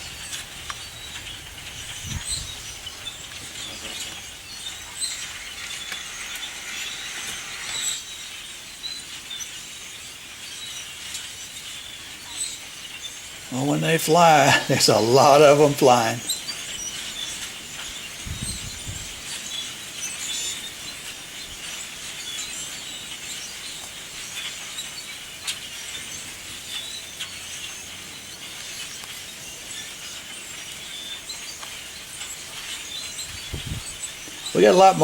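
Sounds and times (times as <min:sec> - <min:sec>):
flock of grackles chattering: 0:00.0 - 0:08.1, 0:10.5 - 0:35.0.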